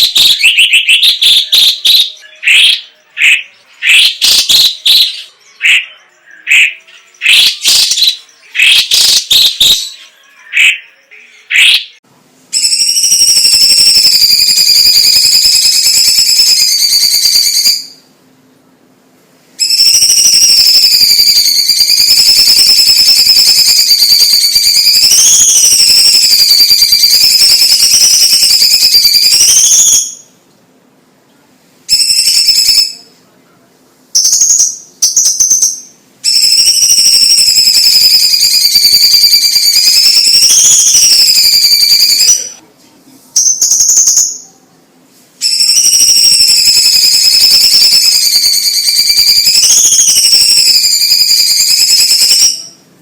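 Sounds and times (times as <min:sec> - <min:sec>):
bird singing whistled song: 0:00.0 - 0:12.0, 0:12.6 - 0:18.0, 0:19.6 - 0:30.4, 0:34.2 - 0:42.6, 0:43.4 - 0:44.6, 0:45.4 - 0:52.8.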